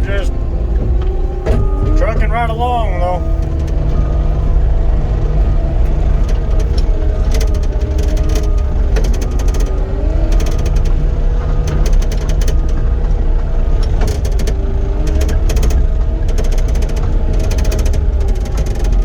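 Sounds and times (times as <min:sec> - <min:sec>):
hydraulic whine: 0:00.0 - 0:19.0
loader diesel engine drone: 0:00.0 - 0:19.0
rapid clicking and rattling: 0:00.0 - 0:19.0.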